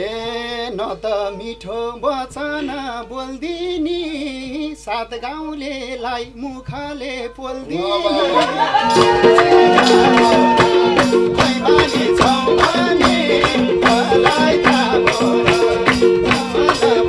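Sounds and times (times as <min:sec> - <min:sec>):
man singing in high wavering voice: 0:00.0 - 0:17.0.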